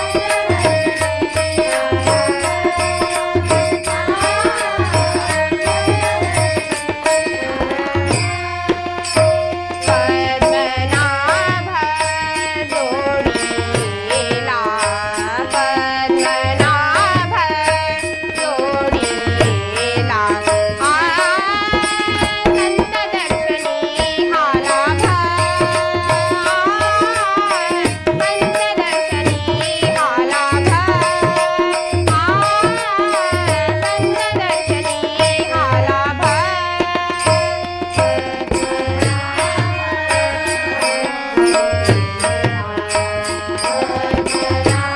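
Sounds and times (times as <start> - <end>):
devotional vocal melody: 0.0 - 44.9
light high percussion: 0.0 - 44.9
tabla strokes: 0.0 - 44.9.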